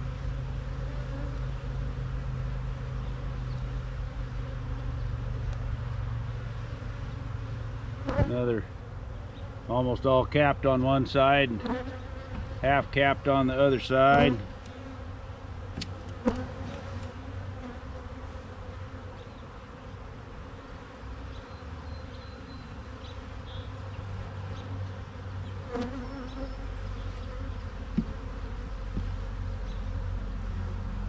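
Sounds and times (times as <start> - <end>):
honey bees buzzing: 0.0 - 31.0.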